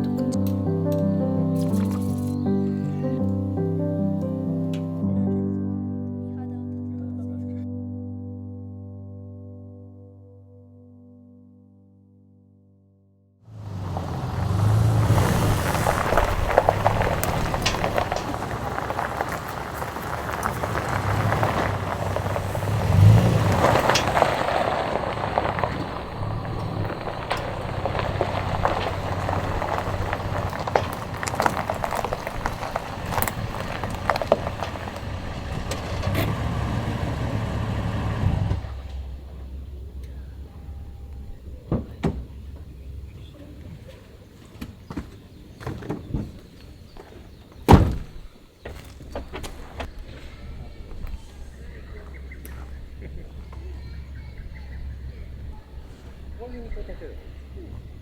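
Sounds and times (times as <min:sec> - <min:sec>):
car engine and road noise: 0:00.0 - 0:05.0, 0:13.5 - 0:58.0.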